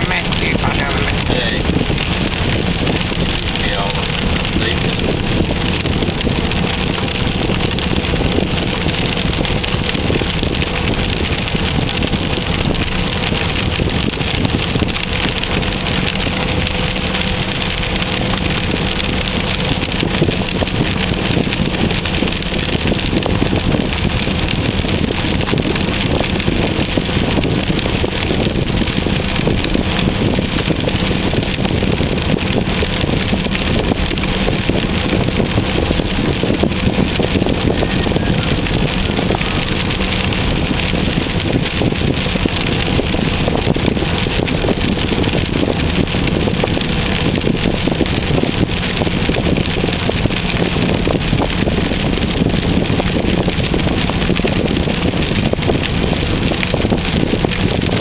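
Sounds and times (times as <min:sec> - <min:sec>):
car road and engine noise: 0:00.0 - 0:58.0
rain on car: 0:00.0 - 0:58.0.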